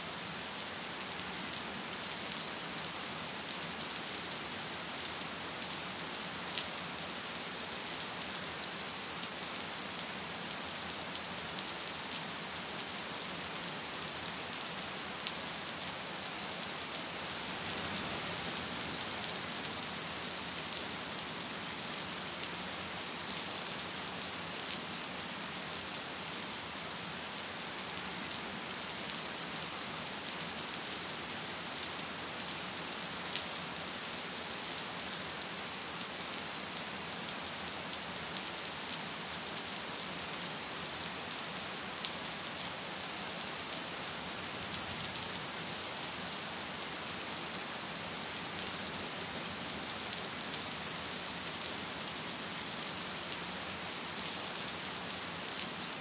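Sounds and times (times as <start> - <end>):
gentle rain falling: 0.0 - 56.0.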